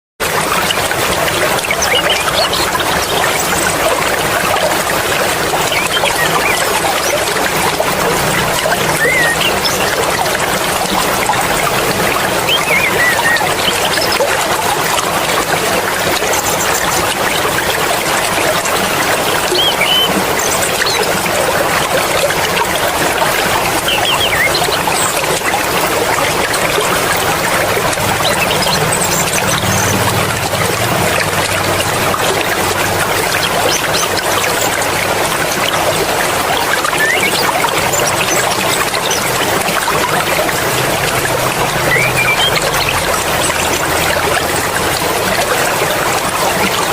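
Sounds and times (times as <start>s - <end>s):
stream flowing over rocks: 0.2s - 46.9s.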